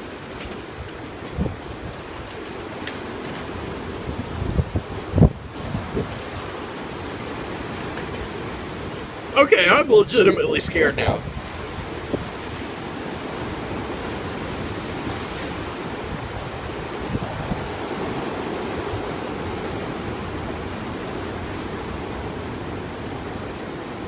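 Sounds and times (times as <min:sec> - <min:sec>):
strong storm wind blowing: 0:00.0 - 0:24.0.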